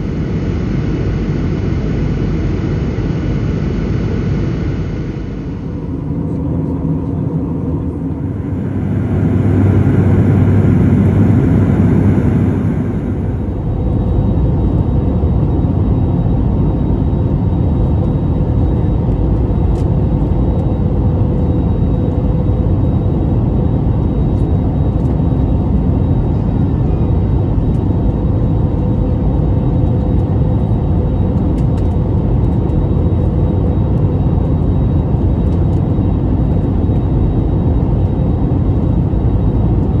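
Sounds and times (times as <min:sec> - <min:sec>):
aircraft in flight rumble: 0:00.0 - 0:40.0.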